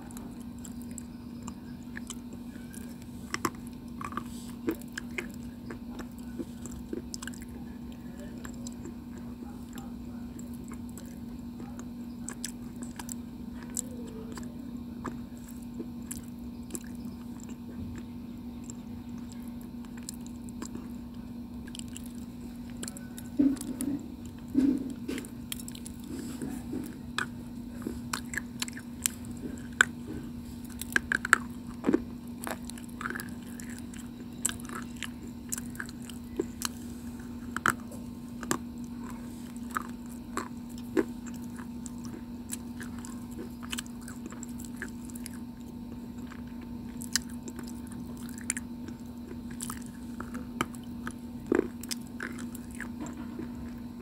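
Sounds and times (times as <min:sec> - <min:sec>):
chewing stone crunches: 0:00.0 - 0:54.0.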